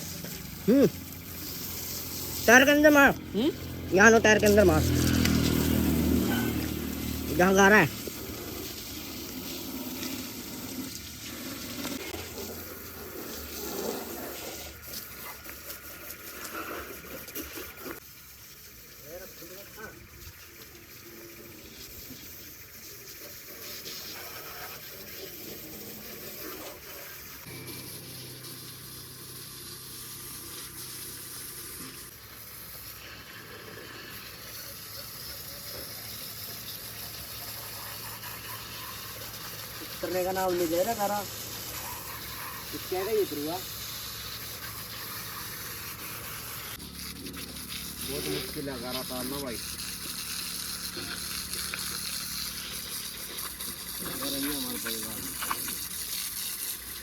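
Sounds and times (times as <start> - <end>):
water jet spraying: 0.0 - 57.0.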